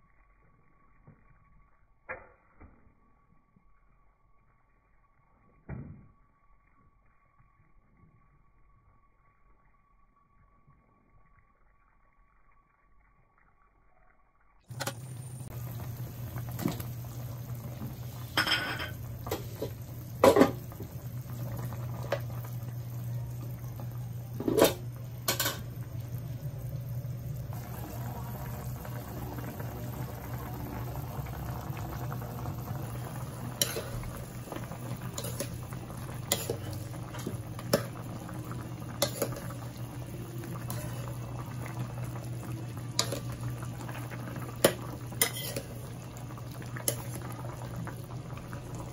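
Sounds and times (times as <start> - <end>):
low hum: 0.0 - 48.9
stew bubbling in a pan: 0.0 - 48.9.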